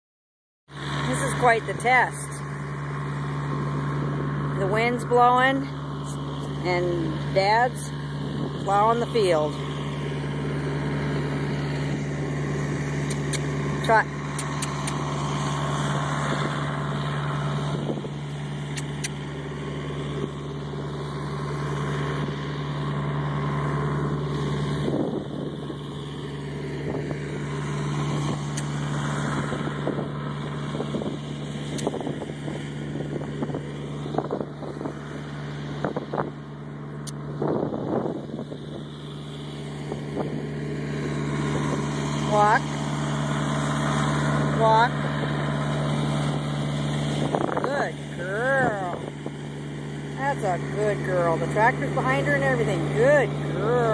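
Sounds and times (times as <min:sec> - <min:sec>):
tractor engine droning: 0:00.7 - 0:53.9.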